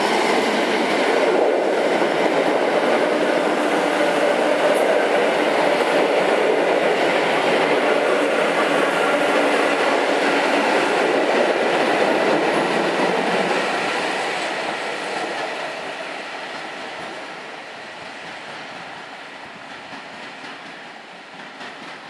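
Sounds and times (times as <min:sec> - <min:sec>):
train wheels clattering on rails: 0:00.0 - 0:22.0.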